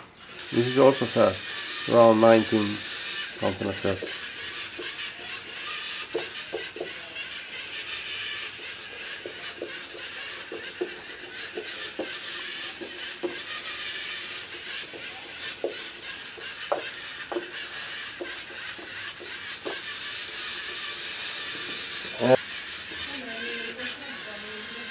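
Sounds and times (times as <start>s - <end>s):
robot motors and gears whirring: 0.0s - 24.9s.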